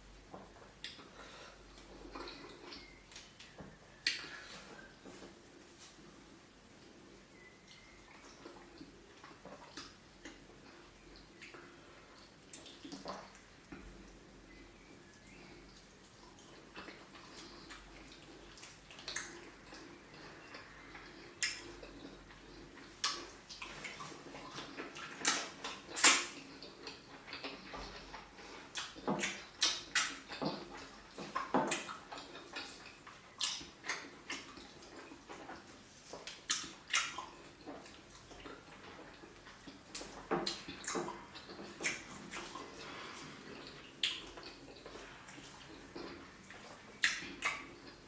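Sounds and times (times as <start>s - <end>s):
wet chewing smacks and slurps: 0.3s - 6.2s, 7.3s - 48.0s.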